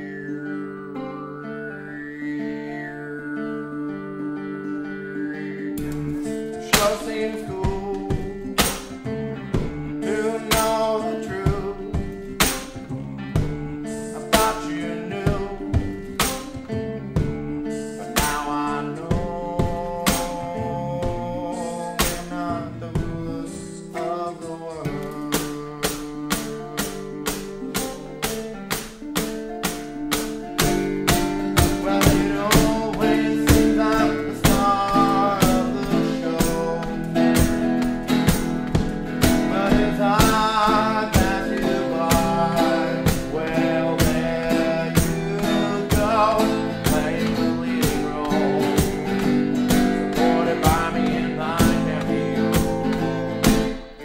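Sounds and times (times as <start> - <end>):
acoustic guitar strumming: 0.0 - 54.0
man singing: 0.0 - 54.0.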